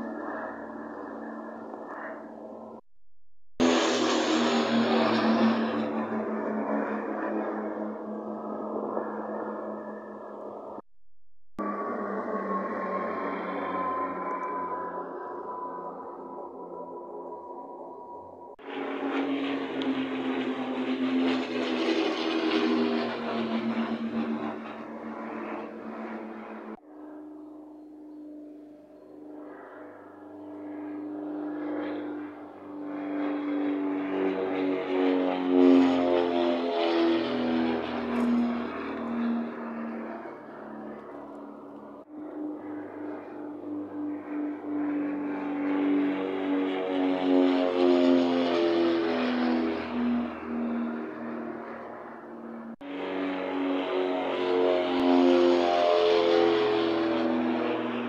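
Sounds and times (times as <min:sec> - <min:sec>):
propeller aircraft flying overhead: 0:00.0 - 0:02.9, 0:03.6 - 0:10.9, 0:11.6 - 0:58.0.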